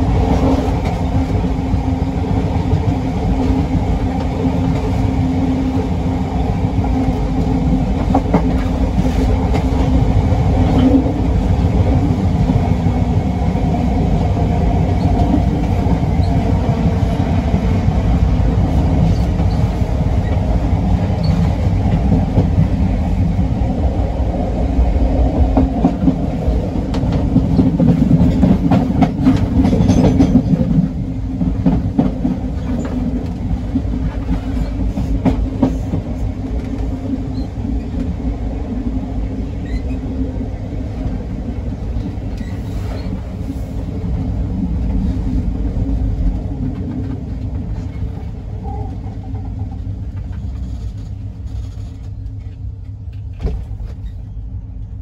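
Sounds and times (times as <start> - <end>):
train low rumble with clicks: 0.0 - 55.0.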